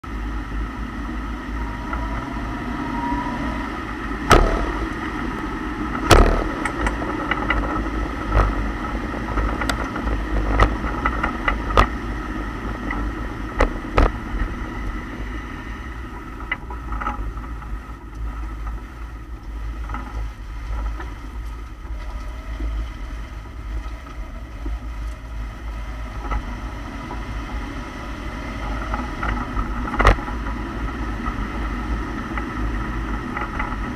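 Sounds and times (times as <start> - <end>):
car running noise: 0.0 - 33.9
car differential clunking: 0.5 - 33.9.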